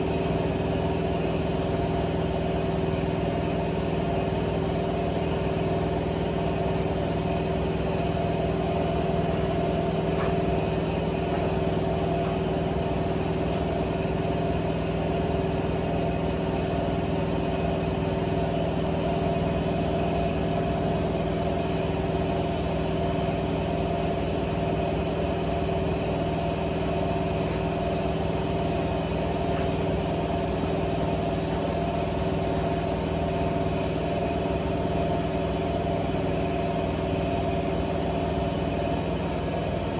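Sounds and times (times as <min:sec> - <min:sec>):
washing machine humming and whining: 0:00.0 - 0:39.9.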